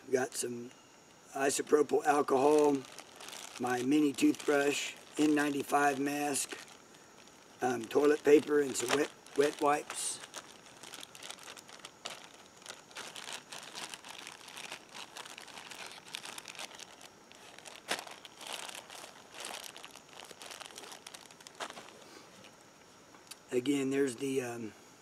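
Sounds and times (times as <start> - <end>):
plastic bag crinkling: 2.1 - 22.5.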